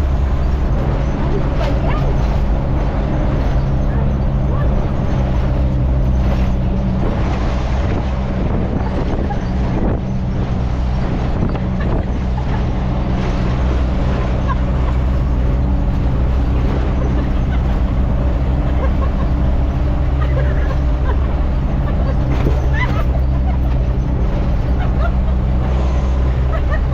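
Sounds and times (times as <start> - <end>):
road and wind noise: 0.0 - 26.9
truck engine droning: 0.0 - 26.9.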